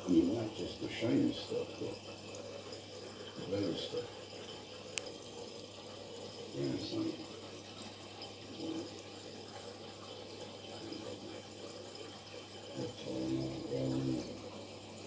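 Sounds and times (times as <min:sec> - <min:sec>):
aquarium water bubbling: 0:00.0 - 0:15.0.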